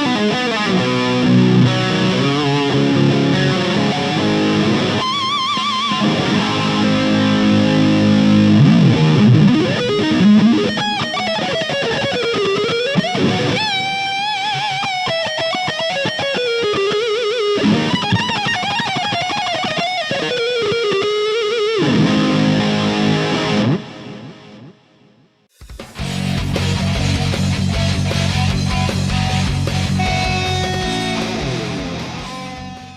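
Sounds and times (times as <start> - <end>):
electric guitar lead line: 0.0 - 32.9.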